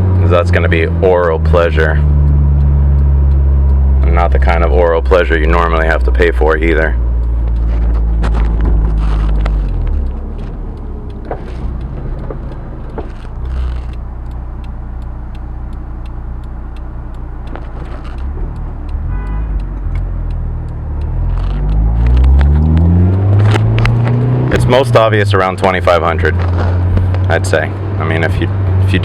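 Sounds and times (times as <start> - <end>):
car engine from inside cabin: 0.0 - 29.0.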